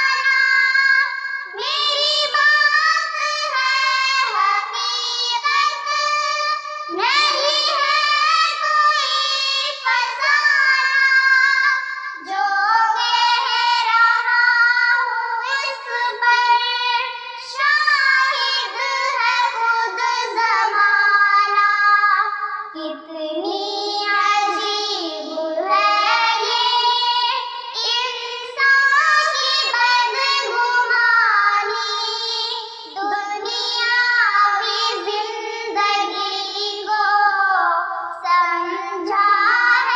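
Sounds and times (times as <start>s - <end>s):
girls singing unaccompanied: 0.0s - 39.9s.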